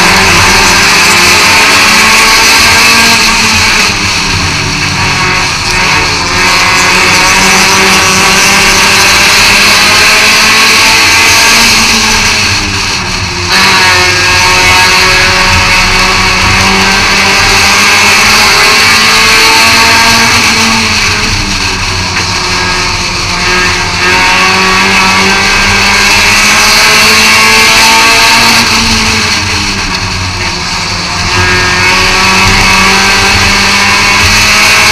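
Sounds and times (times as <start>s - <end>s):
stock car engine running hard: 0.0s - 34.9s.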